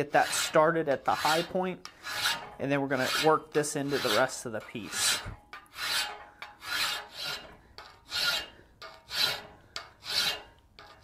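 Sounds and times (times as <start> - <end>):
file rasping on steel: 0.0 - 11.0.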